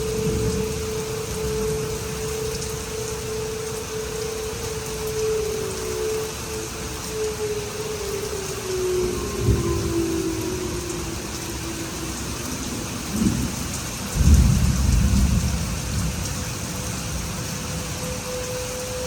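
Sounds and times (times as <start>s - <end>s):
thunder rumbling: 0.0s - 18.3s
steady rain: 0.0s - 19.0s.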